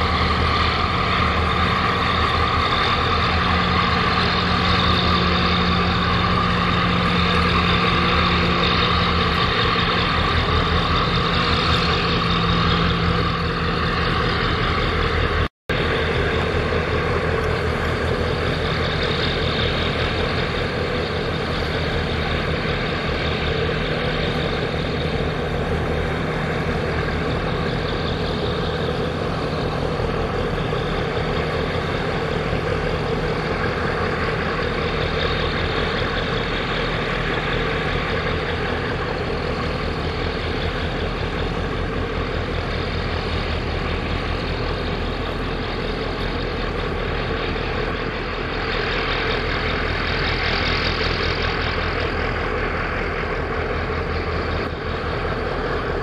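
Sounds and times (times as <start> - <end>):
boat engine droning: 0.0 - 56.0
rushing water: 0.0 - 56.0.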